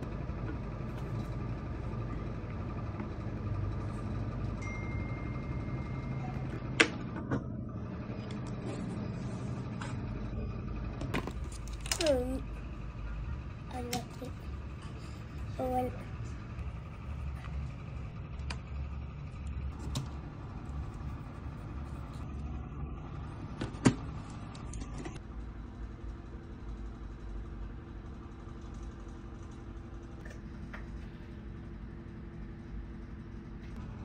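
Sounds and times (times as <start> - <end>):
steady hum: 0.0 - 34.0
vehicle running rumble: 0.0 - 34.0.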